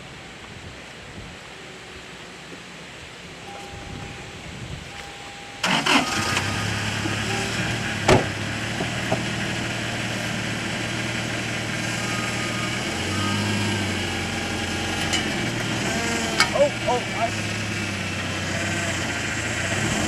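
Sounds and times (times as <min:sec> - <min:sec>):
truck engine idling: 0:02.7 - 0:20.0.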